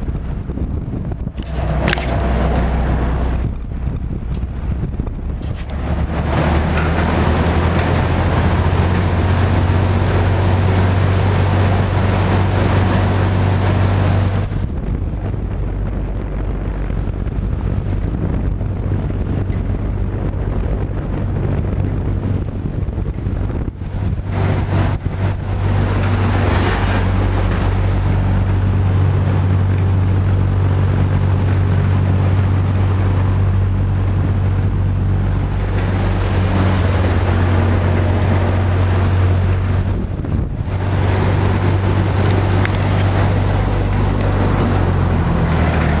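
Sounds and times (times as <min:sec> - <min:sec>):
fan motor hum: 0:00.0 - 0:46.0
rush of moving air: 0:00.0 - 0:46.0.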